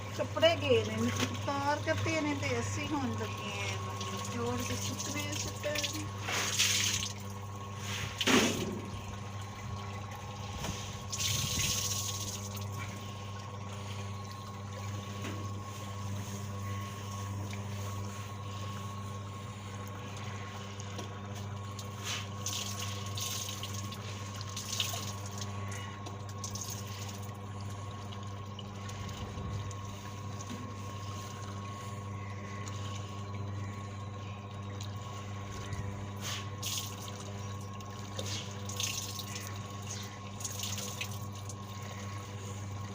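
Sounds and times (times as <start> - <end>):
washing machine motor humming: 0.0 - 42.9
water trickling: 0.3 - 7.8, 8.8 - 15.6, 19.7 - 35.8, 36.6 - 42.9.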